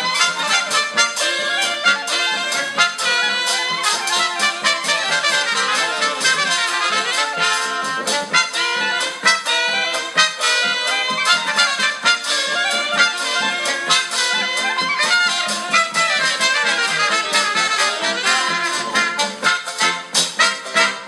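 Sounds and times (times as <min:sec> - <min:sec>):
swing jazz with brass horns: 0:00.0 - 0:21.0.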